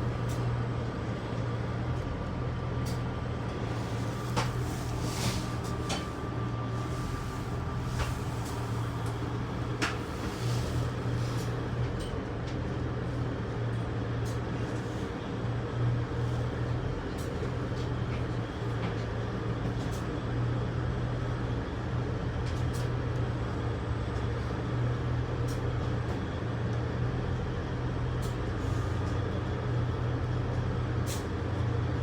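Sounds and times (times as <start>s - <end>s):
train rumbling at speed: 0.0s - 32.0s.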